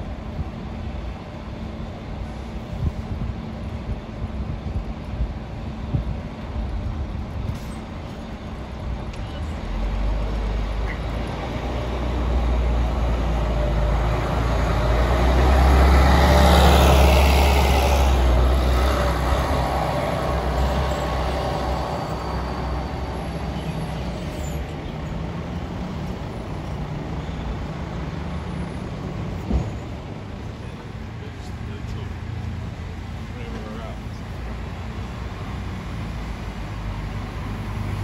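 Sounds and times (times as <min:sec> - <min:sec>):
bus engine accelerating: 0:00.0 - 0:38.0.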